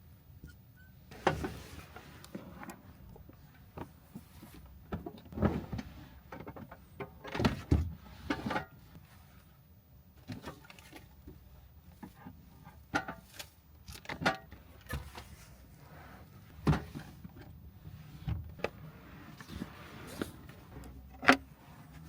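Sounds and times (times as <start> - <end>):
low steady background: 0.0 - 22.0.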